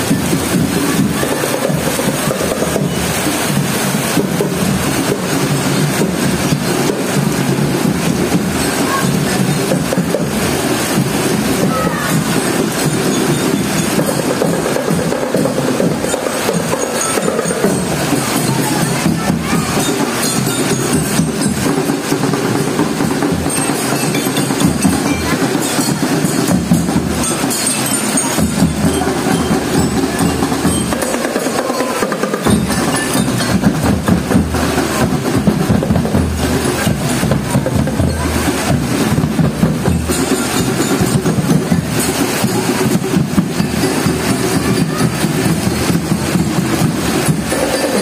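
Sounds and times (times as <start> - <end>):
heavy rain hissing: 0.0 - 48.0
marching drum band: 0.0 - 48.0.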